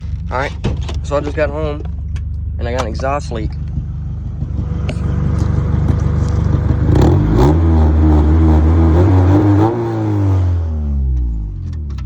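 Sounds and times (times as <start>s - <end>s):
car engine revving with exhaust leak: 0.0s - 12.0s.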